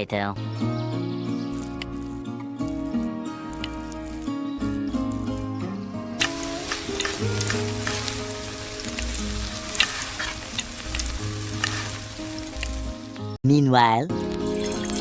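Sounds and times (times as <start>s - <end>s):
background music: 0.0s - 15.0s
food sizzling in frying: 1.4s - 5.6s, 6.2s - 13.4s, 14.2s - 15.0s.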